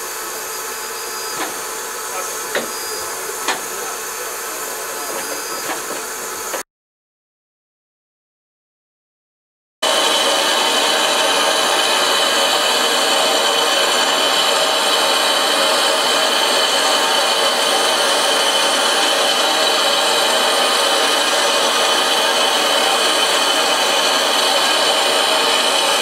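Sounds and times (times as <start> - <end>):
steam hissing from locomotive: 0.0 - 6.6, 9.8 - 26.0.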